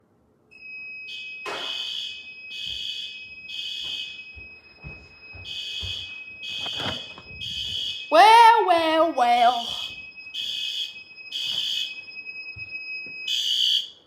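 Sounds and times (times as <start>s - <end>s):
fire alarm blasts: 0.5s - 14.0s
steady high alarm tone: 0.5s - 14.0s.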